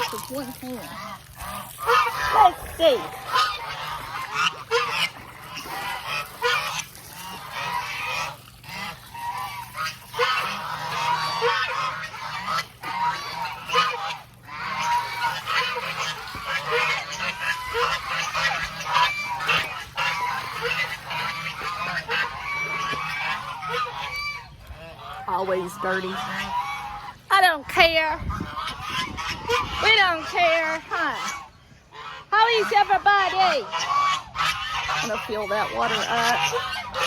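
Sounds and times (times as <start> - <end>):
geese honking: 0.0 - 37.0.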